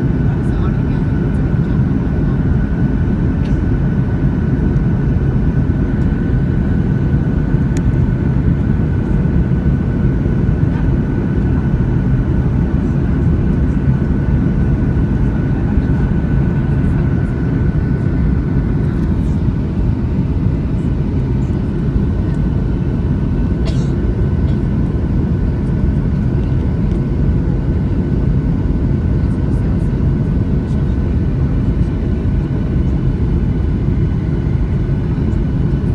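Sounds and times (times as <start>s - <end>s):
jet engine and airflow rumble: 0.0s - 35.9s
steady whine: 0.0s - 35.9s.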